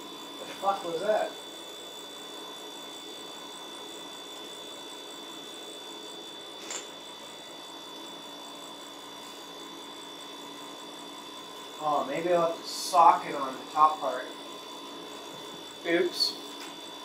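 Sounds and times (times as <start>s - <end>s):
steady background hum: 0.0s - 17.0s
thin high whine: 0.0s - 17.0s.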